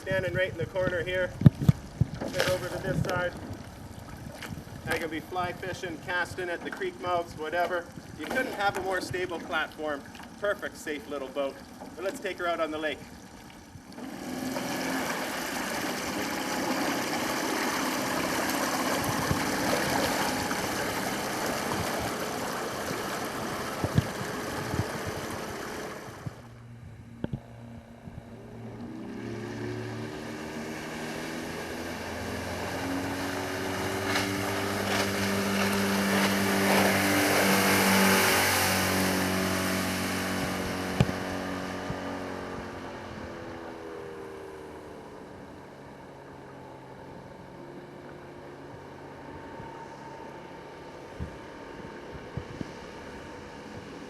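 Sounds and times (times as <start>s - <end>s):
outboard motor running: 0.0s - 54.0s
wind: 0.0s - 54.0s
water rushing: 1.1s - 26.6s, 28.6s - 51.7s.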